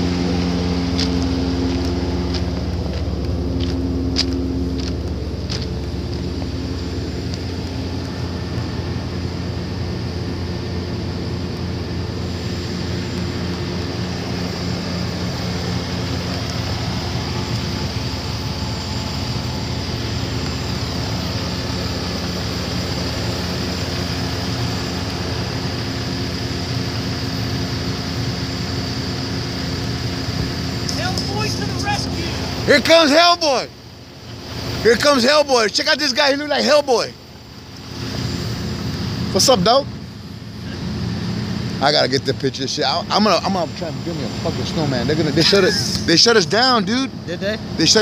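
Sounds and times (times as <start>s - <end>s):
engine droning: 0.0s - 48.0s.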